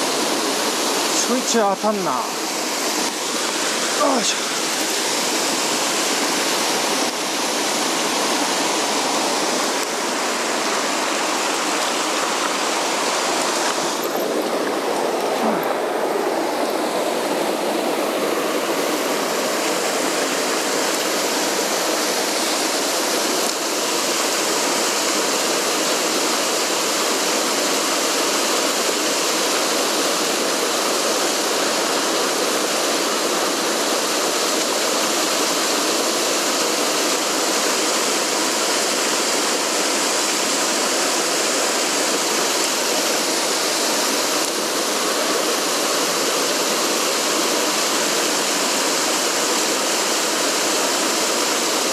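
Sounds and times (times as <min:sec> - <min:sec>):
stream rushing: 0:00.0 - 0:51.9.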